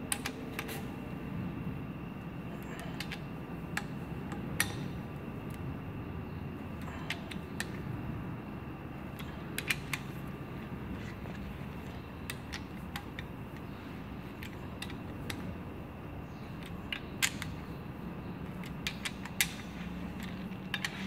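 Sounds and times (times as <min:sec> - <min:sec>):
workshop background hum: 0:00.0 - 0:21.0.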